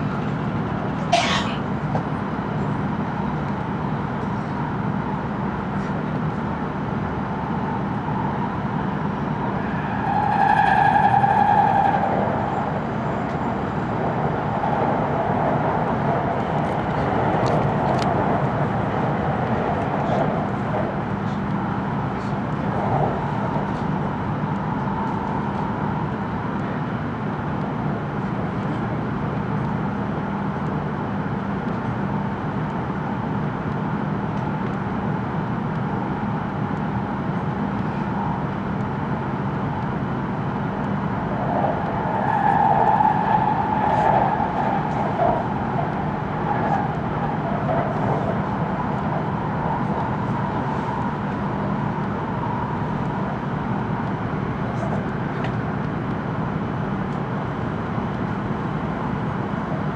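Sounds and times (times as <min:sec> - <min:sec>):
train cabin low hum: 0:00.0 - 0:59.9.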